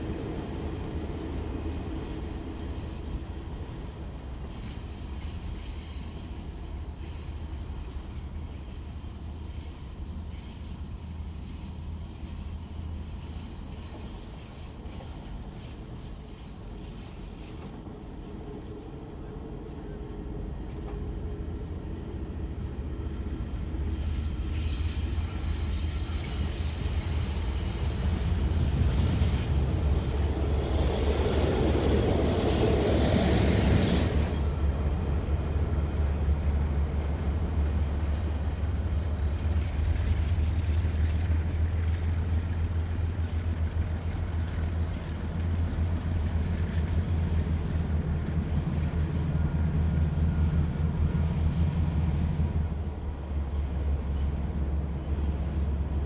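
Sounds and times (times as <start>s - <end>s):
diesel freight train passing: 0.0s - 56.0s.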